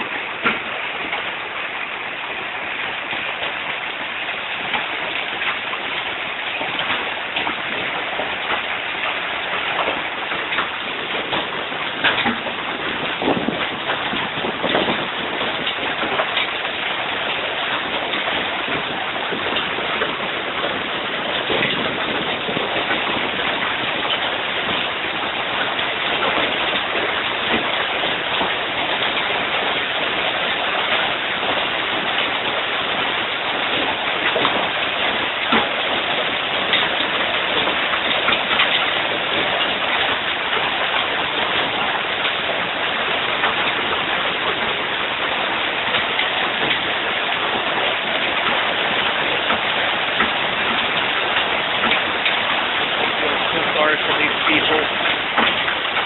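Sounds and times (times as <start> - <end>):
hail clattering: 0.0 - 56.0.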